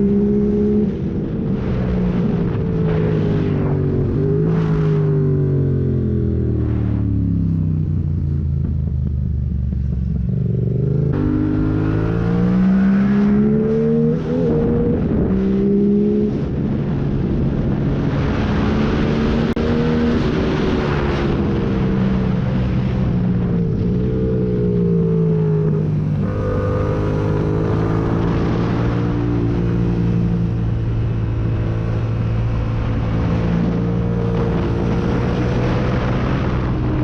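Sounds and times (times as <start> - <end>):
motorcycle engine revving: 0.0 - 16.8, 17.8 - 37.0.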